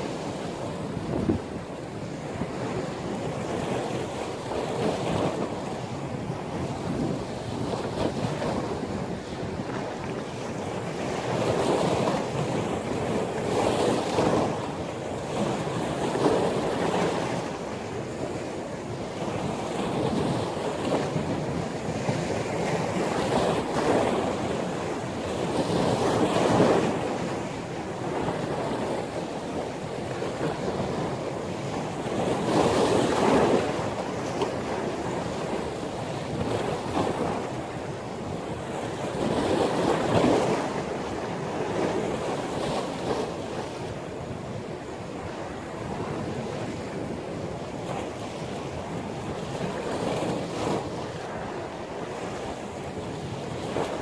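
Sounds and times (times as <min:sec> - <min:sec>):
waves surging and breaking: 0:00.0 - 0:54.0
wind buffeting the microphone: 0:00.0 - 0:54.0.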